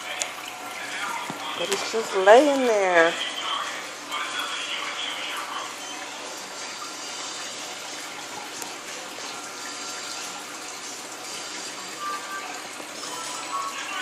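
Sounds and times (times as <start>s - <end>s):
aquarium water rushing and splashing: 0.0s - 14.0s.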